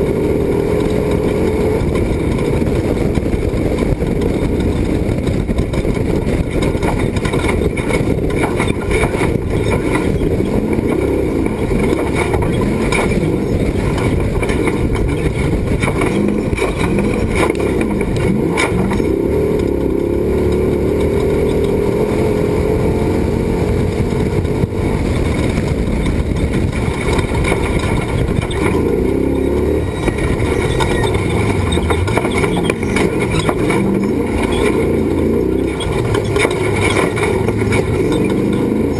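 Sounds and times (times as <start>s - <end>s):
knocks and rattles: 0.0s - 38.9s
truck engine revving: 0.0s - 38.9s.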